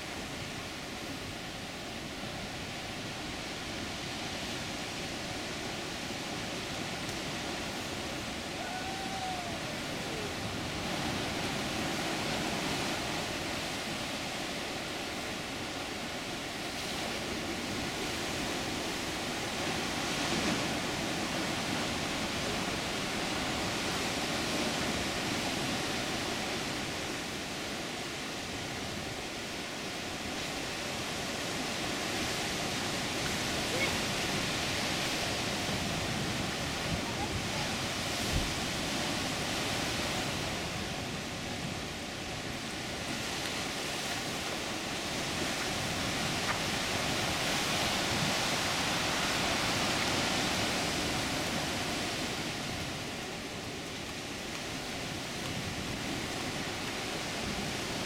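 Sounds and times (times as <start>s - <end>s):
ocean surf breaking on rocks: 0.0s - 58.0s.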